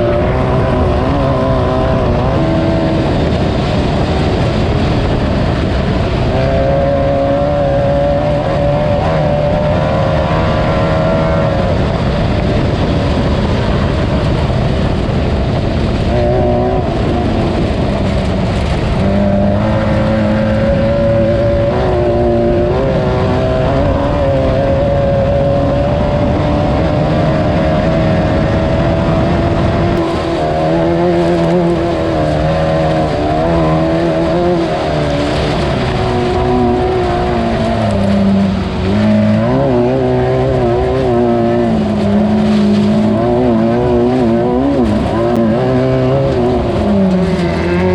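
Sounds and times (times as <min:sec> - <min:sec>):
race car engine revving: 0:00.0 - 0:47.9
steady rushing noise: 0:00.0 - 0:47.9.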